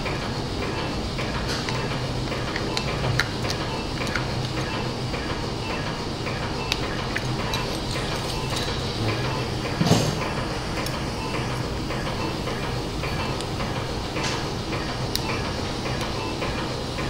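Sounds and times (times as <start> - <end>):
equipment humming: 0.0 - 17.0.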